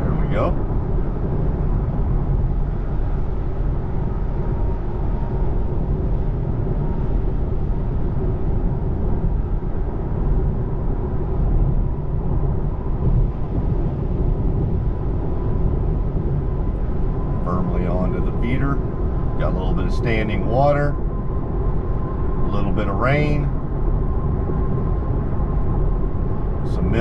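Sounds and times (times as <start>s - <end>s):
low tyre rumble: 0.0s - 27.0s.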